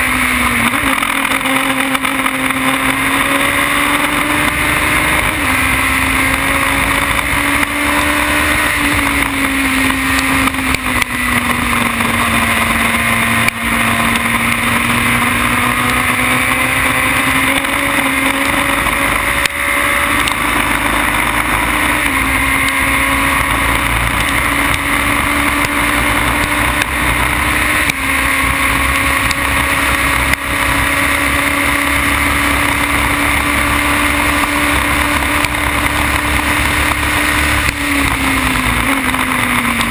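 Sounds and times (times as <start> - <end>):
racing car engine running hard: 0.0 - 39.9.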